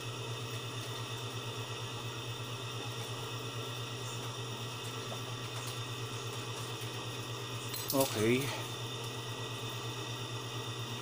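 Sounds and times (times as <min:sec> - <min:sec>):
cooling fan humming: 0:00.0 - 0:11.0.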